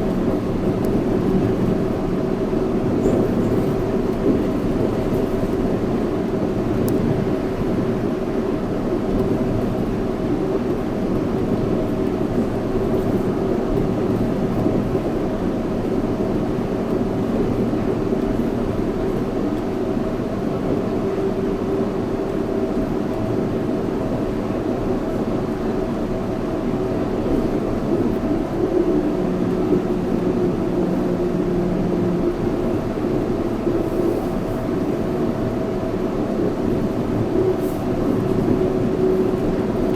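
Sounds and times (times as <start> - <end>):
train tyres rumbling on guideway: 0.0 - 39.9.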